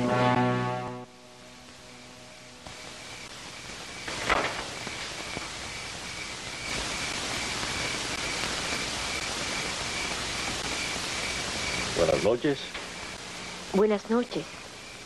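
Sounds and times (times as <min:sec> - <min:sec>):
steady hiss: 0:00.1 - 0:15.0
crickets chirping: 0:01.1 - 0:15.0.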